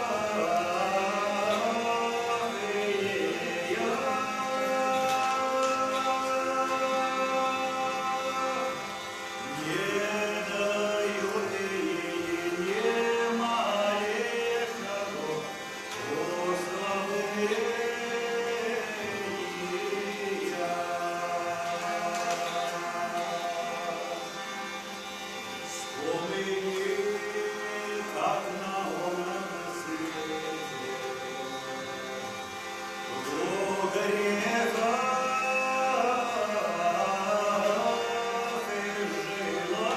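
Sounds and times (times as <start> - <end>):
person singing slow melody: 0.0 - 39.9
sustained drone: 0.0 - 39.9.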